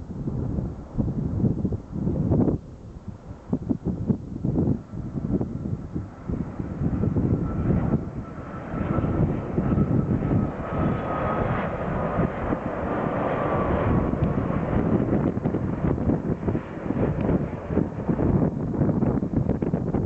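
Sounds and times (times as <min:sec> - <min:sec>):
airliner engine rumble and whine: 0:00.0 - 0:20.0.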